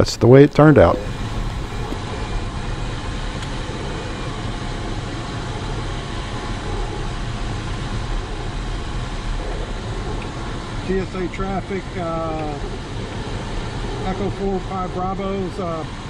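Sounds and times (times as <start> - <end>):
air rushing over glider canopy: 0.0 - 16.0.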